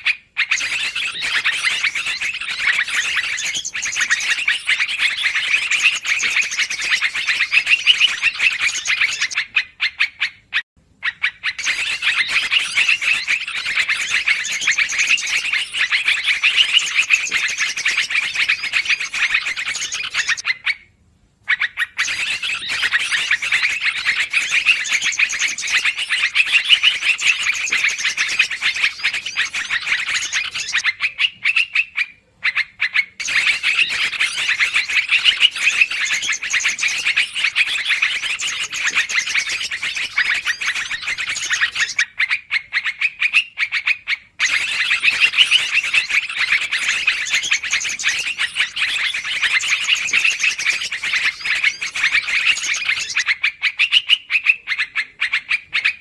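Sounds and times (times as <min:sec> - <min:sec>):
chorus of bird chirps: 0:00.0 - 0:56.0.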